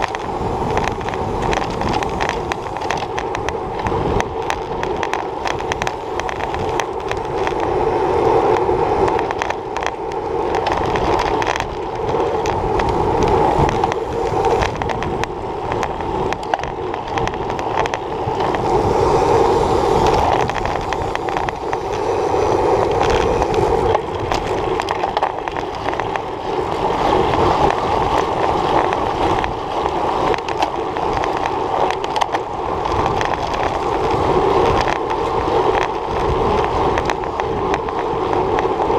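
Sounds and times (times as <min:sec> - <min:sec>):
bicycle road noise on rough asphalt: 0:00.0 - 0:38.9.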